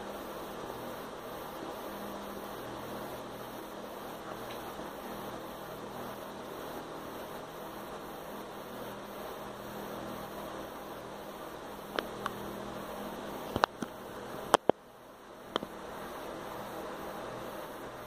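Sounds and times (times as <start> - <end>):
background hiss and low hum: 0.0 - 18.0.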